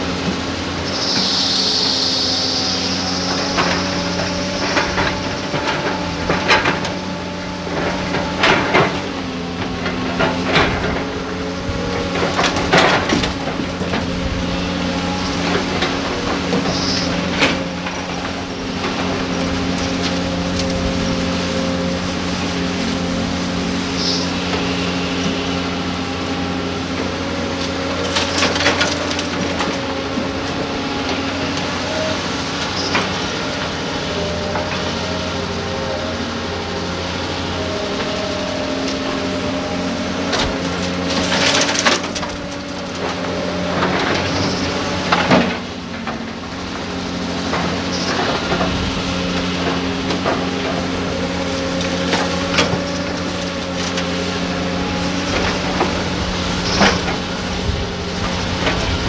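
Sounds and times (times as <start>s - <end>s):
excavator diesel engines running: 0.0s - 59.0s.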